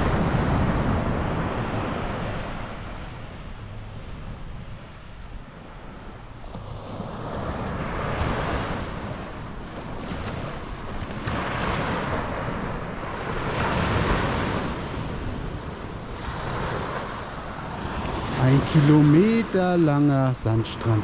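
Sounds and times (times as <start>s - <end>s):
small waves breaking on sand: 0.0s - 21.0s
wind rumbling on microphone: 0.0s - 21.0s.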